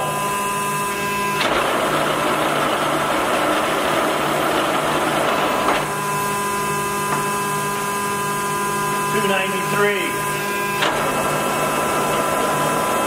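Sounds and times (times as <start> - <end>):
lathe gearing whirring hum: 0.0 - 13.0.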